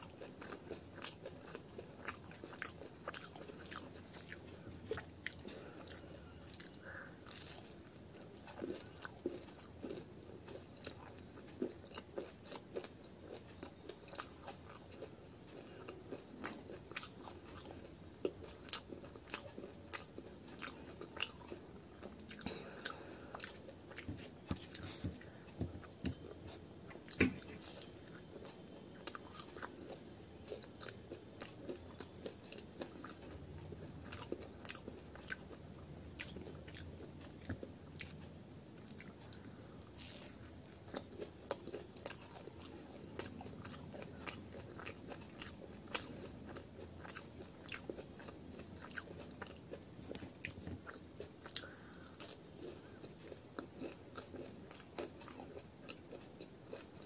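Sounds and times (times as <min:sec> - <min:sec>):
crunchy chewing and biting: 0:00.0 - 0:57.0.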